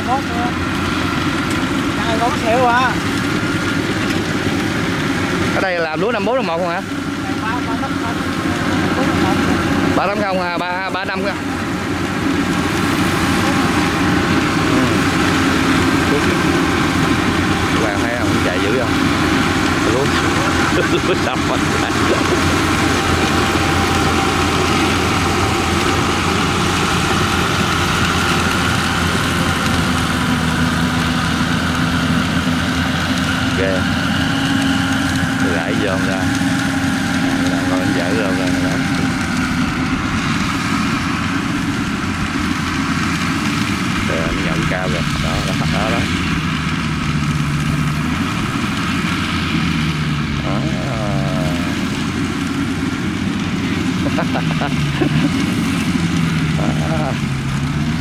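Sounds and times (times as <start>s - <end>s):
diesel engine running under load: 0.0s - 58.0s
whir of cutting machinery: 0.0s - 58.0s.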